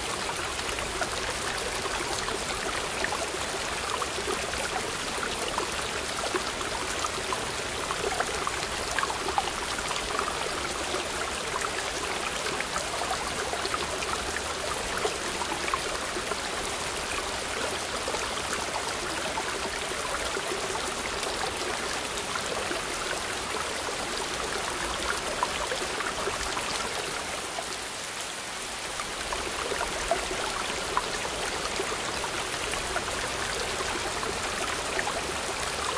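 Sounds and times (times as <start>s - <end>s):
stream rushing over boulders: 0.0s - 35.9s.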